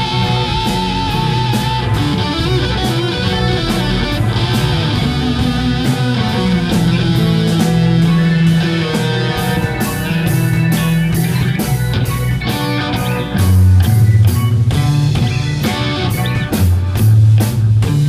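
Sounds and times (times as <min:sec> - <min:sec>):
bass guitar: 0:00.0 - 0:18.0
drum kit with cymbals: 0:00.0 - 0:18.0
electric guitars: 0:00.0 - 0:18.0.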